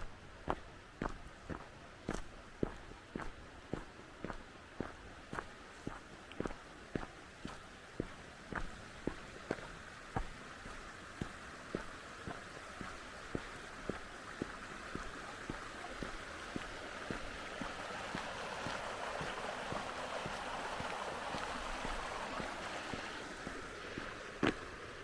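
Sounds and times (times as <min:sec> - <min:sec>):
footsteps on forest path: 0:00.0 - 0:25.0
stream rushing: 0:00.0 - 0:25.0.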